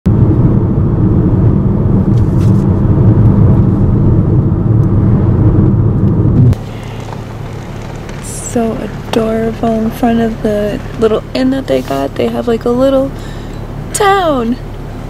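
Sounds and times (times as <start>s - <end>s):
vehicle rumble: 0.1s - 15.0s.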